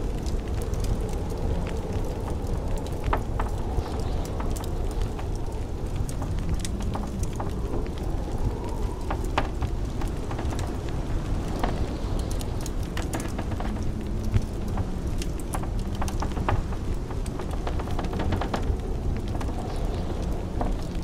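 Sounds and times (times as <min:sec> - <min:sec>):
low rumble of blizzard wind: 0:00.0 - 0:21.0
wood fire crackling: 0:00.0 - 0:21.0.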